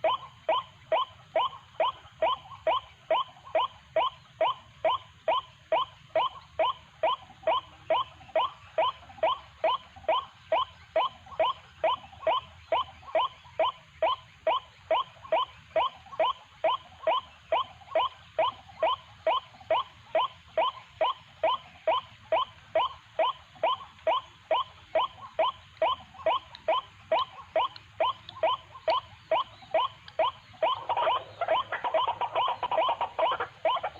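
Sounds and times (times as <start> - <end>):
waterhen calling: 0.0 - 33.9.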